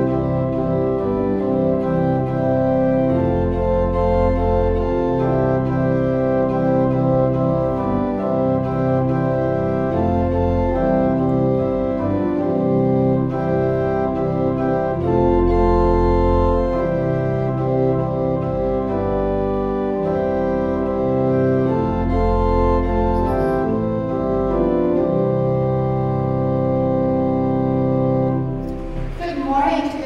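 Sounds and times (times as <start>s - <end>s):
organ playing sustained chords: 0.0s - 30.0s.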